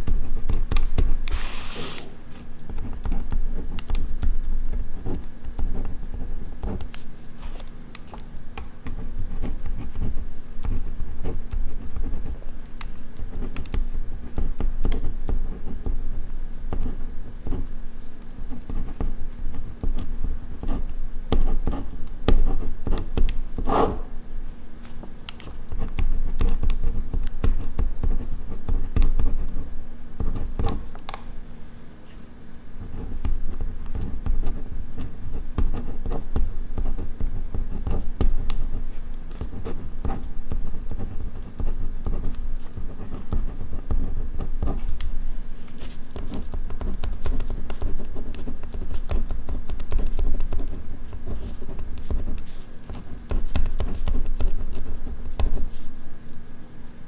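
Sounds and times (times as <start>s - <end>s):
ballpoint pen writing on paper: 0.0s - 16.0s, 16.7s - 24.1s, 25.2s - 31.2s, 32.8s - 45.0s, 45.7s - 55.9s.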